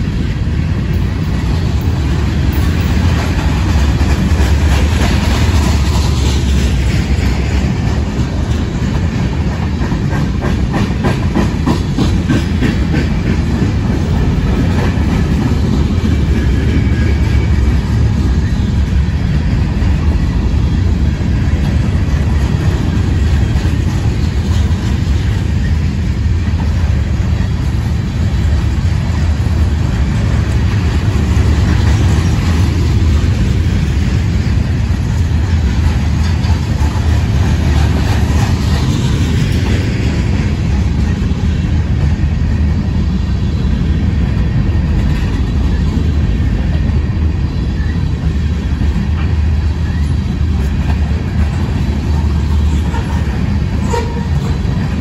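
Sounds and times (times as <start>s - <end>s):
wheels clicking over rail joints: 0.0s - 42.1s, 44.3s - 55.0s
steel wheels rumbling on rail: 0.0s - 55.0s.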